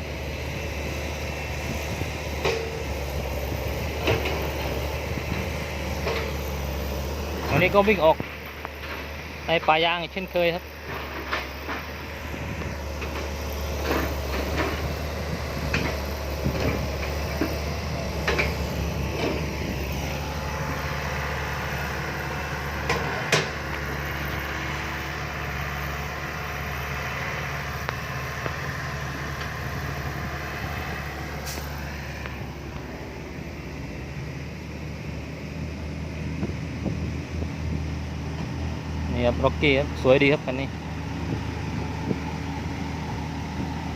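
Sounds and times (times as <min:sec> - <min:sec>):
dump truck diesel engine running: 0:00.0 - 0:43.9.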